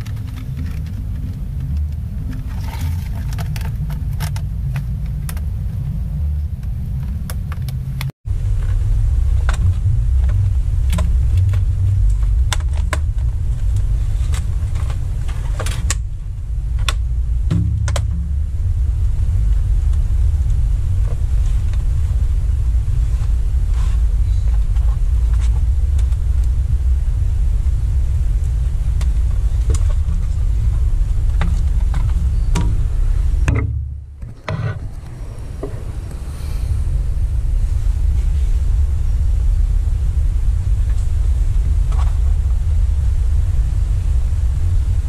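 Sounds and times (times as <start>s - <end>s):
low rumble: 0.0s - 45.0s.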